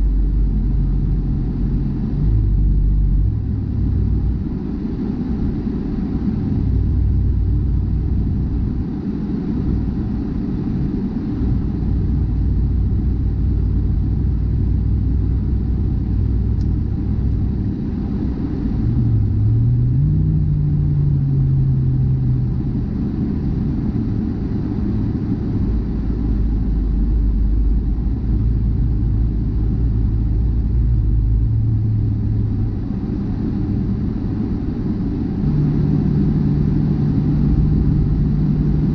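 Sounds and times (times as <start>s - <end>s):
car engine and road rumble: 0.0s - 38.9s
low hum rising and falling: 0.0s - 38.9s.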